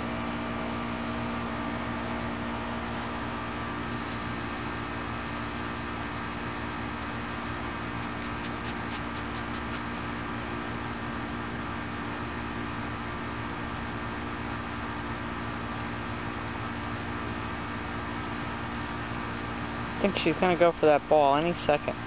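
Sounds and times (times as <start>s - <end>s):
background hum and hiss: 0.0s - 22.0s.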